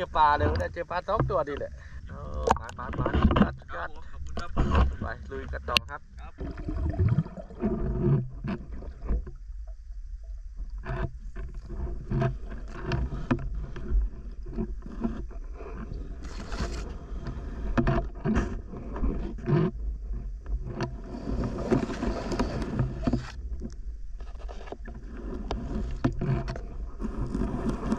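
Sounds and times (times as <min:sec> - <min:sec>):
muffled underwater rumble: 0:00.0 - 0:27.9
underwater knocks and swishes: 0:00.0 - 0:27.9.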